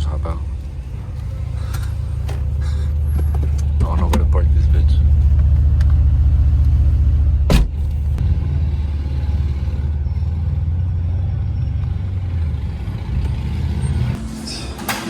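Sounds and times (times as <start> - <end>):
car engine and exhaust droning: 0.0 - 15.0.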